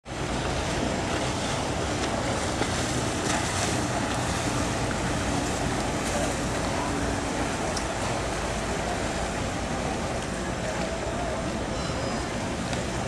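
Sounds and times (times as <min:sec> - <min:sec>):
water washing: 0:00.0 - 0:13.0
outboard motor running: 0:00.1 - 0:13.0.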